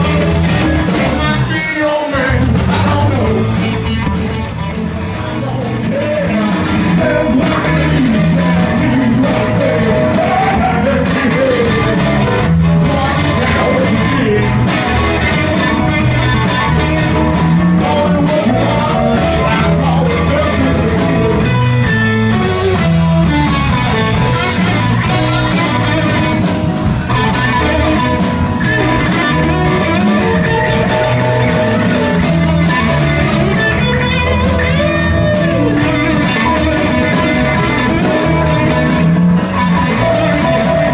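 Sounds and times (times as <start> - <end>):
bass guitar: 0.0 - 40.9
drums: 0.0 - 40.9
electric guitar: 0.0 - 40.9
keyboard: 0.0 - 40.9
person singing: 0.0 - 40.9.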